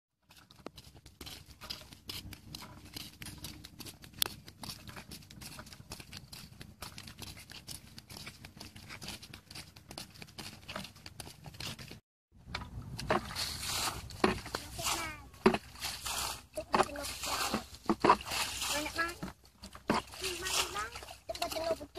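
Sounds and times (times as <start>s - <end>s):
footsteps on dirt track: 0.2s - 12.0s, 12.6s - 21.9s.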